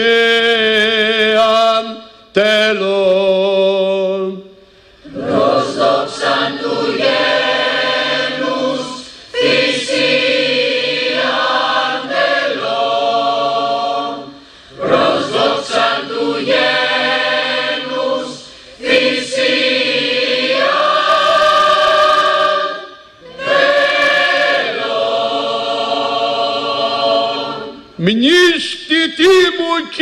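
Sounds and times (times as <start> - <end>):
choir singing long held notes: 0.2 - 28.0.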